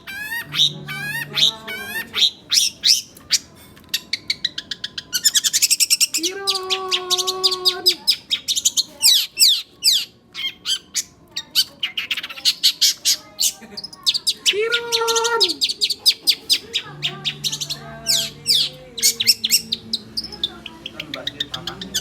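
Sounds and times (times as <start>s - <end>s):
magpie-robin singing: 0.0s - 22.0s.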